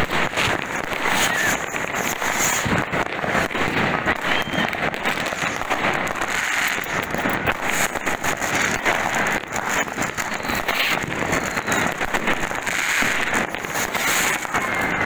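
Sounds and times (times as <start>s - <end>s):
firecracker bangs and crackling: 0.0s - 15.0s
rockets bursting: 0.0s - 15.0s.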